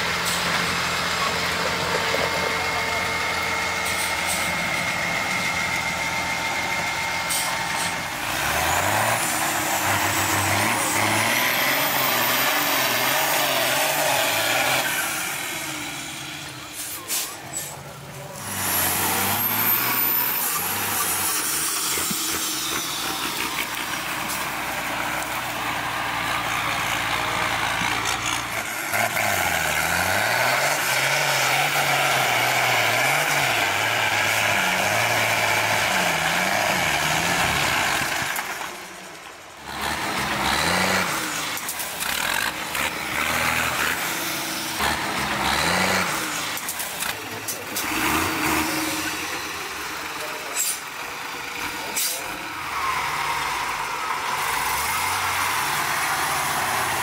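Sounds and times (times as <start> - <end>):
truck diesel engine revving: 0.0 - 57.0.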